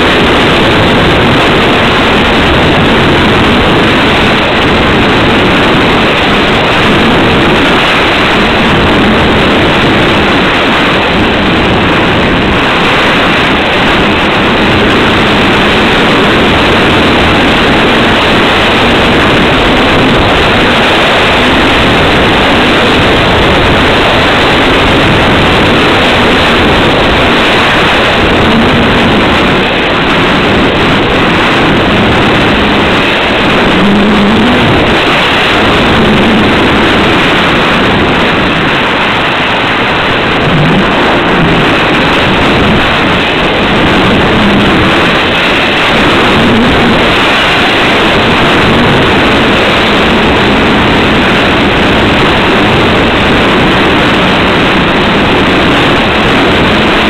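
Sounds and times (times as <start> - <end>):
airflow rushing over microphone: 0.0 - 57.0.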